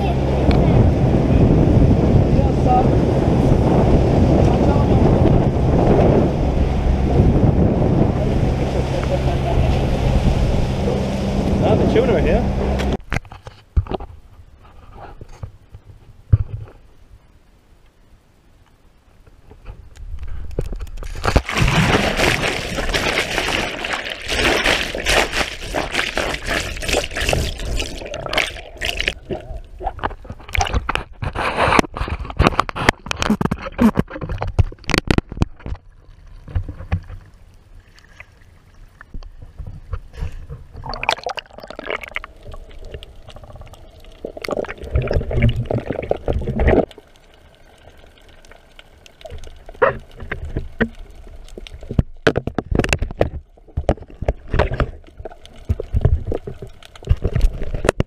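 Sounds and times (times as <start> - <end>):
sea water sloshing and gurgling: 0.0 - 13.0, 20.6 - 58.0.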